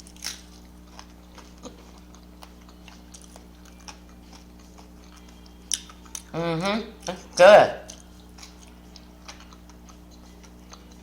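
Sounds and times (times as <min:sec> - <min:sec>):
person chewing crunchy food: 0:00.0 - 0:06.4, 0:07.0 - 0:11.0
low electrical hum: 0:00.0 - 0:11.0.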